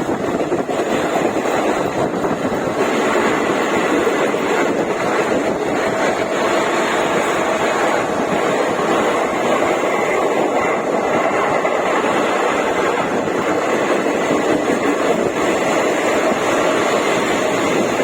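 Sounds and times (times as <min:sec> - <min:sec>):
train wheels rumbling on rail: 0:00.0 - 0:18.0
wind noise on microphone: 0:00.0 - 0:18.0.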